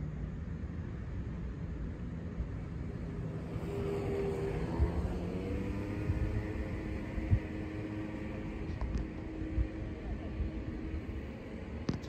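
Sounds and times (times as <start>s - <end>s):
faint humming tones: 0.0s - 12.0s
distant engine rumble: 1.0s - 12.0s.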